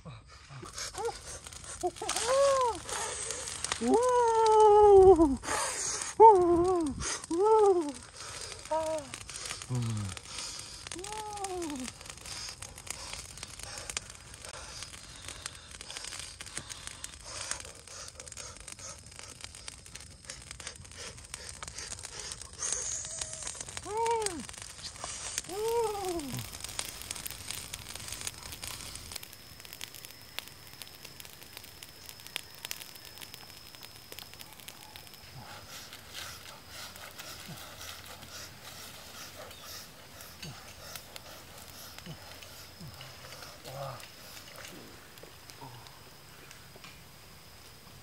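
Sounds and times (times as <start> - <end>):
wood fire crackling: 0.1 - 48.0.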